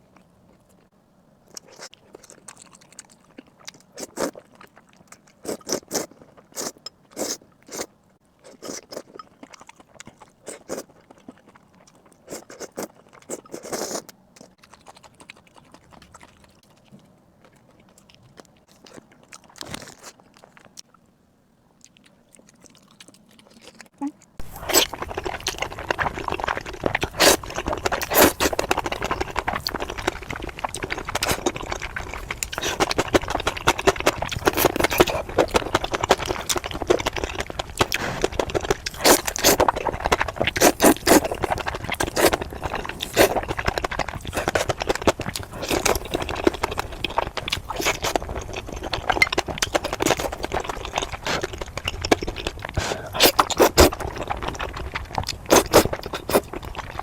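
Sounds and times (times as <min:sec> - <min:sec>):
person chewing and smacking food: 0:01.5 - 0:21.0, 0:21.8 - 0:57.0.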